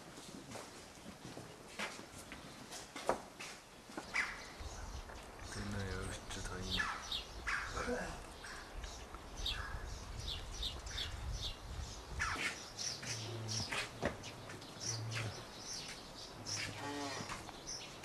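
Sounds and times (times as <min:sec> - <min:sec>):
small birds chirping: 0:03.5 - 0:18.0.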